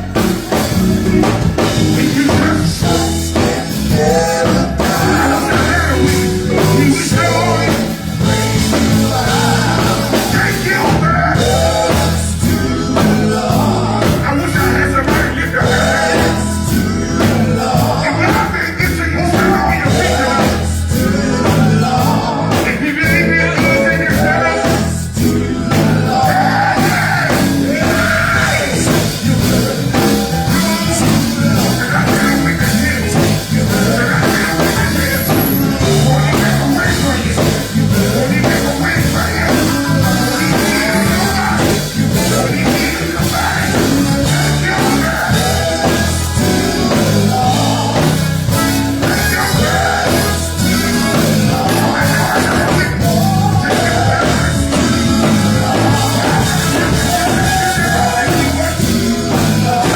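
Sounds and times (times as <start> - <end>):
drum kit: 0.0 - 59.9
live gospel band music: 0.0 - 59.9
person singing: 0.0 - 59.9.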